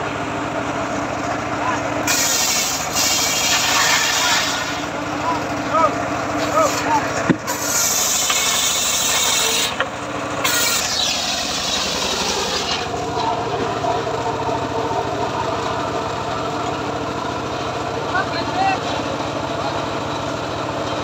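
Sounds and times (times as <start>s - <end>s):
portable sawmill running: 0.0s - 21.0s.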